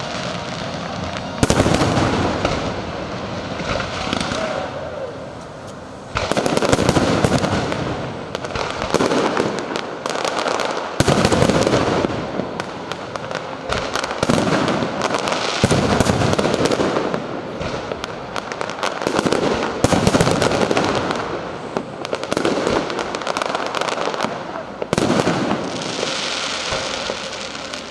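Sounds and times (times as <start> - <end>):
fireworks bursting and crackling: 0.0 - 27.9
heavy firework bursts: 0.0 - 27.9.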